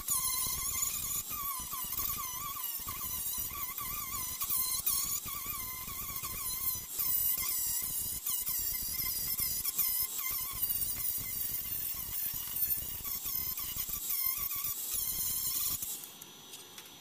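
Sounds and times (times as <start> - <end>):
angle grinder grinding metal: 0.0 - 16.1.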